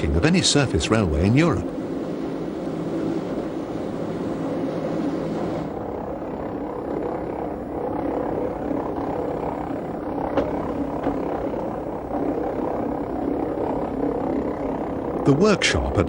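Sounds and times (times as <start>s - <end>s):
train mechanical drone: 0.0s - 16.0s.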